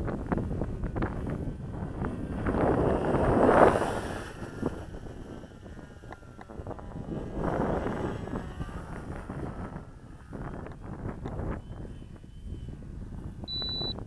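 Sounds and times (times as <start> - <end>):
faint model plane motor whine: 0.0 - 14.0
wind buffeting microphone: 0.0 - 14.0.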